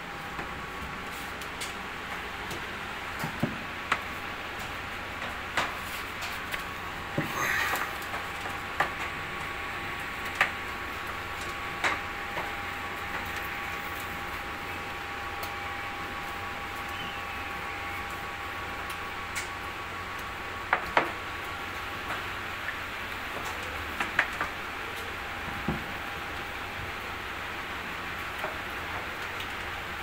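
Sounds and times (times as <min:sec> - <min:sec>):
faint steady whine: 0:00.0 - 0:30.0.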